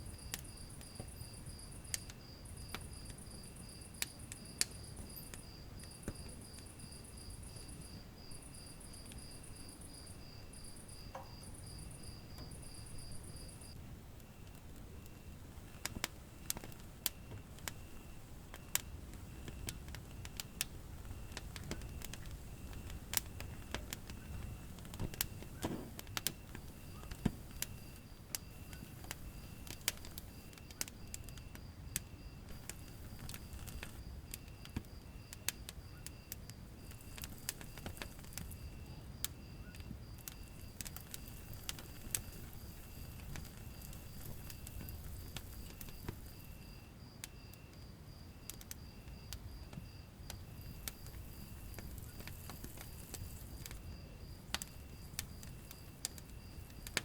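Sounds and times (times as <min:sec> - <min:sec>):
cricket chirping: 0:00.0 - 0:57.0
low rumble of flame: 0:00.0 - 0:57.0
wood fire crackling and popping: 0:00.0 - 0:57.0.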